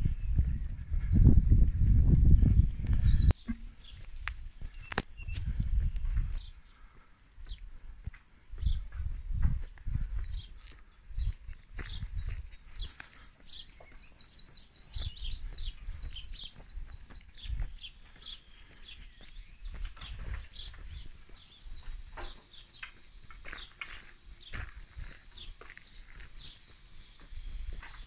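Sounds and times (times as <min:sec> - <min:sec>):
songbird singing: 0:00.0 - 0:28.0
footsteps on tarmac: 0:00.3 - 0:28.0.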